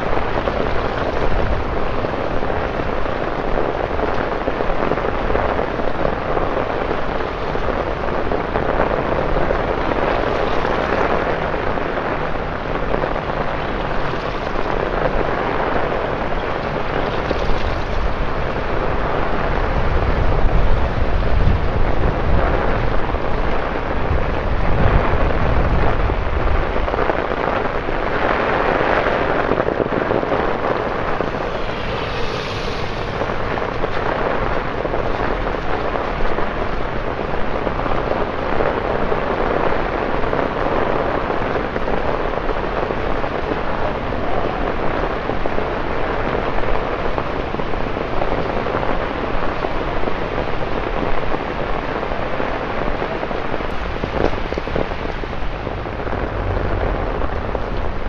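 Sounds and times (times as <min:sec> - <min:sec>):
rain on wet paving: 0:00.0 - 0:58.0.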